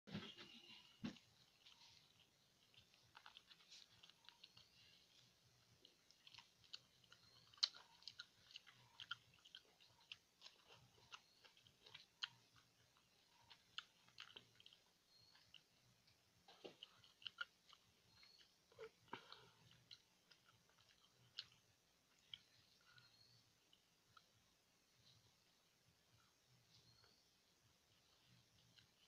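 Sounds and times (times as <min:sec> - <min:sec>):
wet chewing and mouth clicks: 0:00.6 - 0:25.2.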